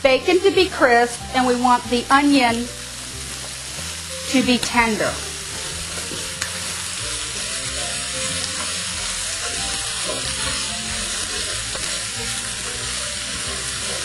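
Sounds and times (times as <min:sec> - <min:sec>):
bacon and onion sizzling: 0:00.0 - 0:14.0.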